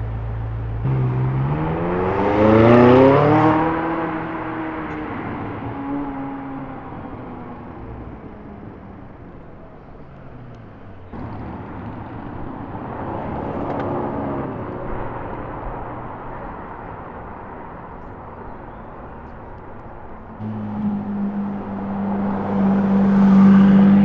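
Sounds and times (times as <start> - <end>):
car driving by: 0.0 - 24.0.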